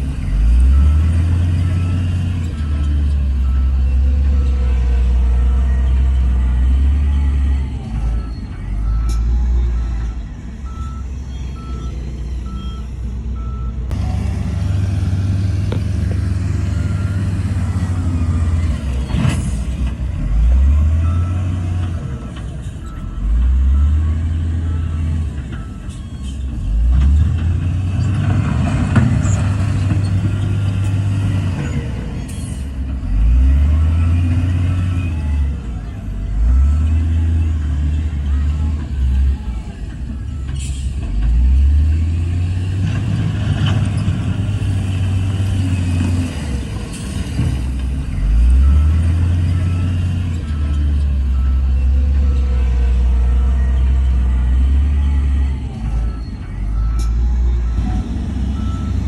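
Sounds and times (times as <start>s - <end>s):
diesel earthmoving machinery working: 0.0s - 59.0s
reversing alarm beeping: 0.1s - 14.4s, 15.0s - 59.0s.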